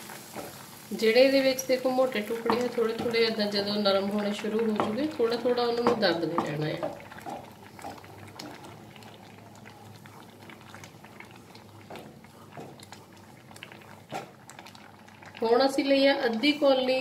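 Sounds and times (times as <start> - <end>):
wooden spatula stirring: 0.0 - 15.5
tomato puree bubbling in a pan: 0.0 - 17.0.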